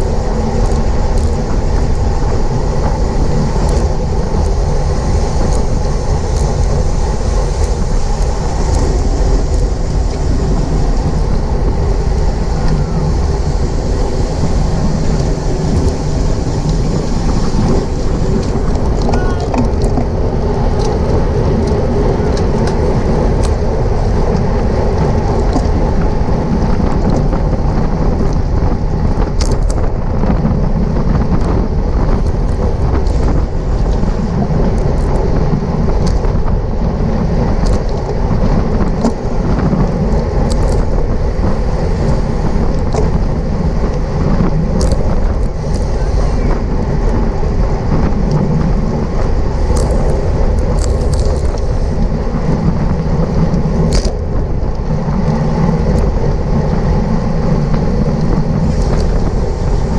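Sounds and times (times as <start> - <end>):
wind roaring over microphone: 0.0 - 59.9.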